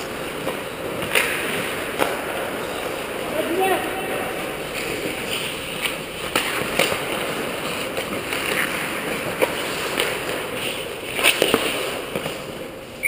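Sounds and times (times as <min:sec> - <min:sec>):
hockey sticks and puck clacking: 0:00.0 - 0:13.0
skates scraping on ice: 0:00.0 - 0:13.0.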